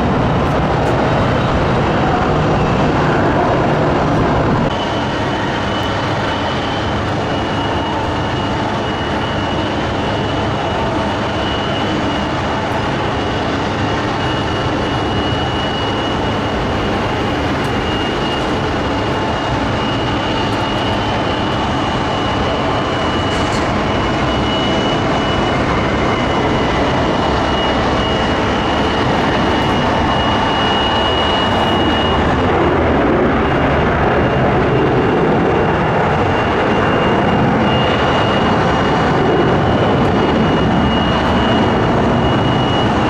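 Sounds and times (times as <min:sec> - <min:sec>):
jet engine rush with whine: 0:00.0 - 0:43.0.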